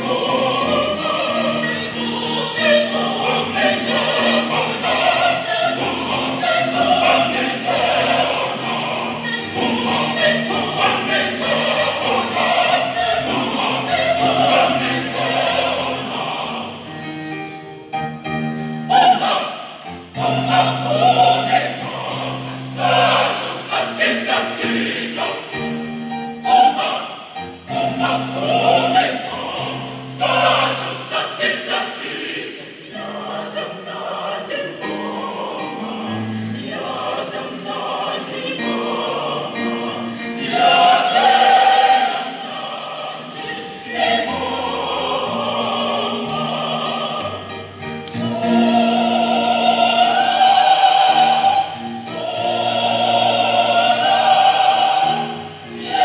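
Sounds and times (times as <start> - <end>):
large choir singing in harmony: 0.0 - 56.0.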